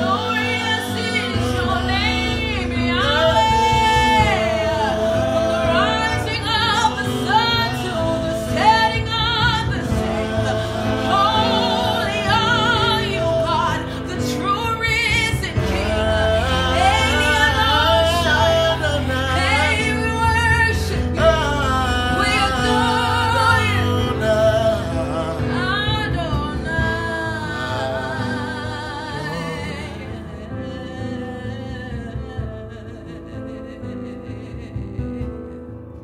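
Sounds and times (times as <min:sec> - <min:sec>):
people singing gospel: 0:00.0 - 0:33.4
bass: 0:00.0 - 0:36.0
keyboard chords: 0:00.0 - 0:36.0.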